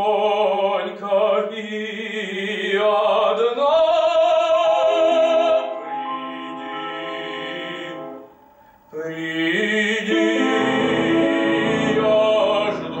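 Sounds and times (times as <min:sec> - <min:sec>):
classical singing voice: 0:00.0 - 0:13.0.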